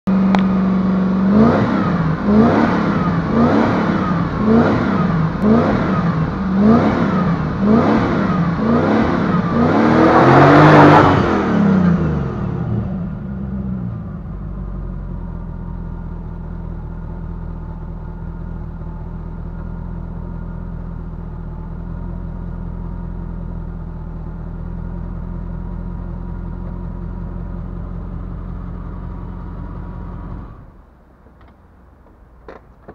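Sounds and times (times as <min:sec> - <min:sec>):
car engine revving and idling: 0:00.1 - 0:32.9.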